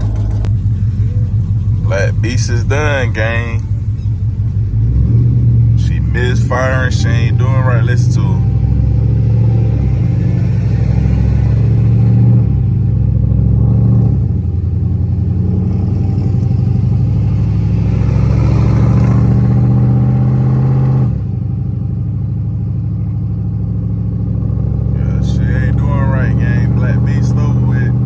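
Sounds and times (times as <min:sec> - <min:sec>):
engine misfiring: 0:00.0 - 0:28.0.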